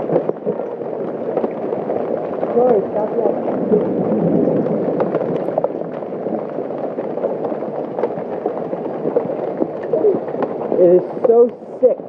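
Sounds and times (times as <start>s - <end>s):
hailstones pelting down: 0.0s - 12.0s.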